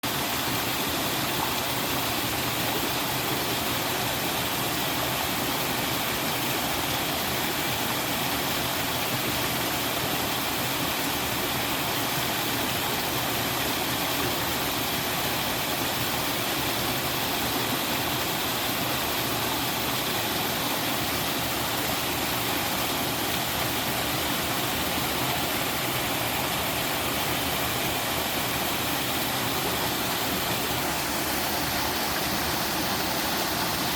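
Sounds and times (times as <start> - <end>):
waterfall splashing into stream: 0.1 - 33.9.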